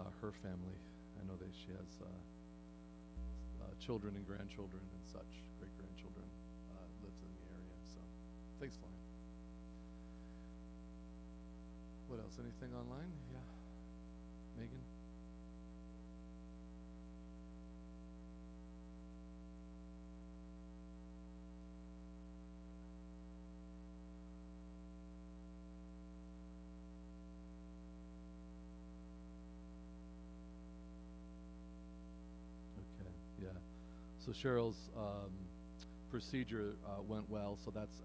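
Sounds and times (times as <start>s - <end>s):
faint mains hum: 0.0s - 38.0s.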